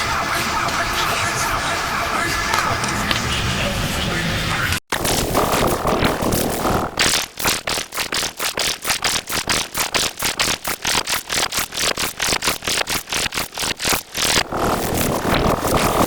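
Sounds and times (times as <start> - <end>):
stuttering noisy sound clip: 0.0 - 16.0.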